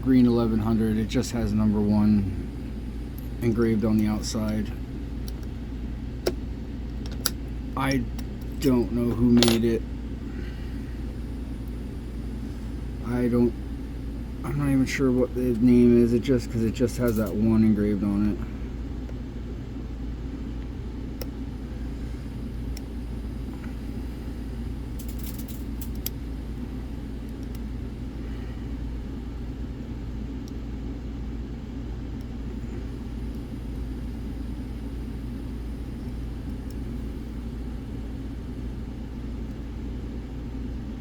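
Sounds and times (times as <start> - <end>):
low background rumble: 0.0 - 41.0.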